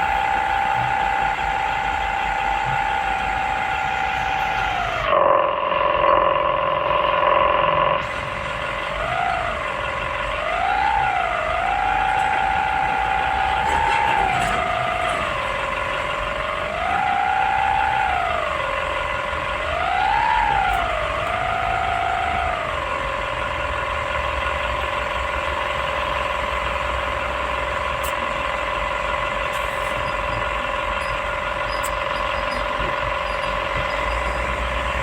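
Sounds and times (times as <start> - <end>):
excavator engine and hydraulic whine: 0.0 - 35.0.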